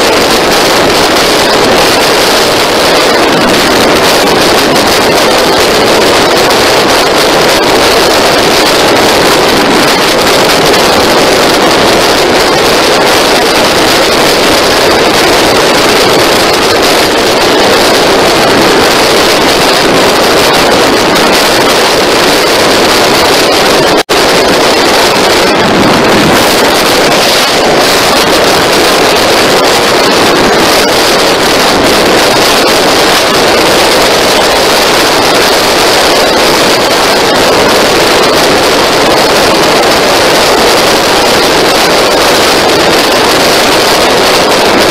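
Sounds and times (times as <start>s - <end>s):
motorcycle engine: 0.0s - 44.9s
wind rushing on microphone: 0.0s - 44.9s.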